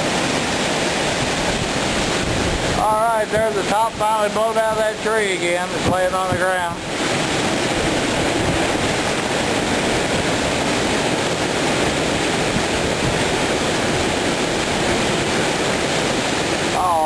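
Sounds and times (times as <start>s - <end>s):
strong wind rumbling on microphone: 0.0s - 17.0s.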